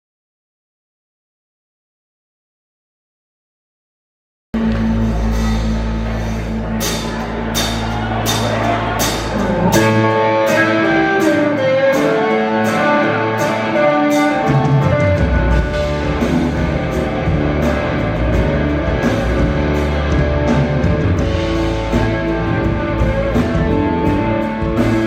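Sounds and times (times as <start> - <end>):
bass guitar: 4.6 - 25.0
live rock band playing: 4.6 - 25.0.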